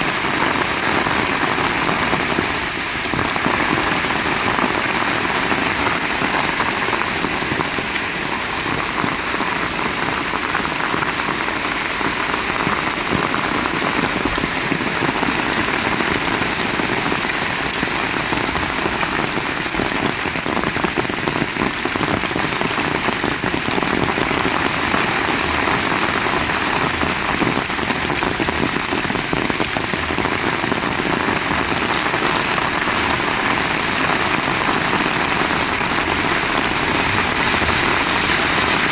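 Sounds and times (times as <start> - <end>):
heavy rain on surfaces: 0.0 - 38.9.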